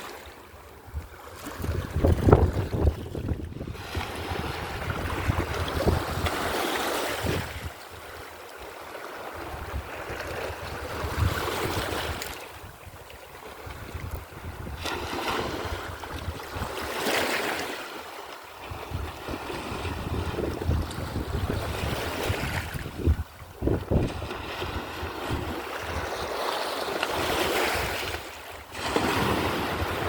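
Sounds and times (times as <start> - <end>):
sea waves breaking: 0.0 - 30.0
wind rumbling on microphone: 0.8 - 8.2, 9.4 - 16.9, 18.6 - 26.4, 27.1 - 30.0.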